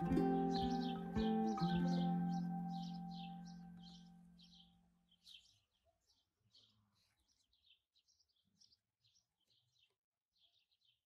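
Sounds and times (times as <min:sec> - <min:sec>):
faint small birds chirping: 0:00.0 - 0:11.0.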